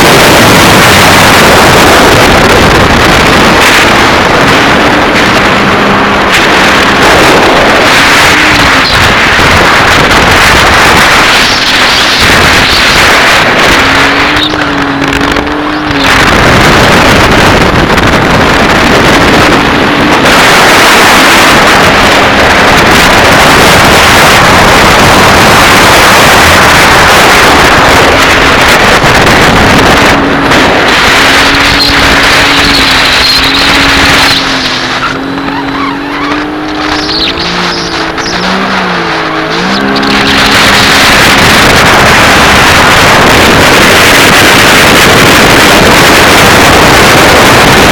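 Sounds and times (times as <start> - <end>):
jet ski engine: 0.0 - 47.9
rush of wind and water: 0.0 - 47.9.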